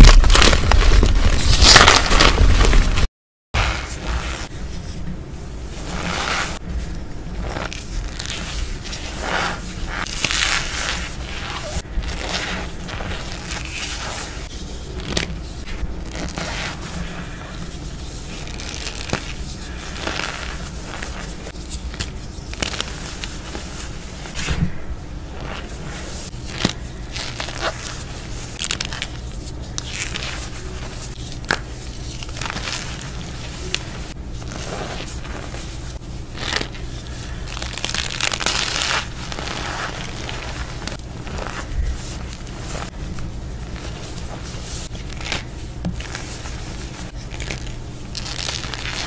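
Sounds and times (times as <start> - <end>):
hands crunching packed powder: 7.4 - 24.5, 25.3 - 49.0.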